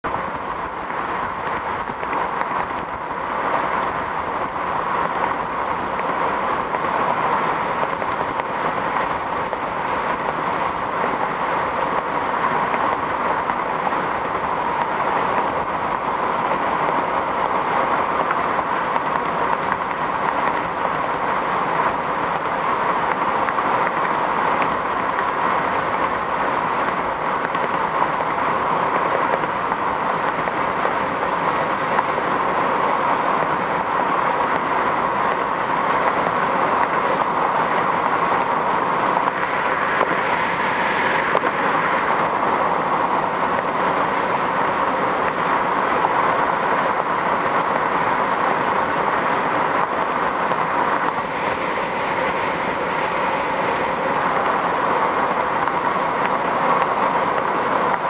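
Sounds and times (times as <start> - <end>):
car road noise from inside: 0.1 - 58.0.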